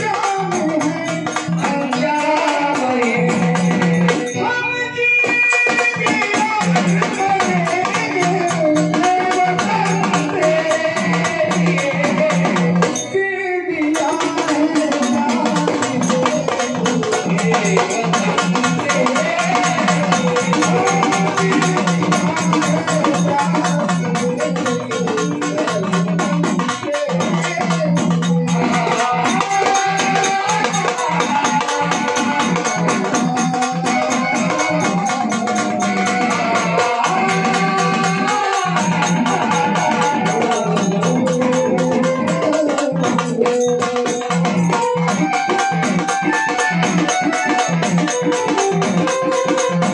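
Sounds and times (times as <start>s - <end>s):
fast frame drum beating: 0.0s - 4.5s, 5.2s - 13.2s, 13.8s - 49.9s
person singing: 0.0s - 49.9s.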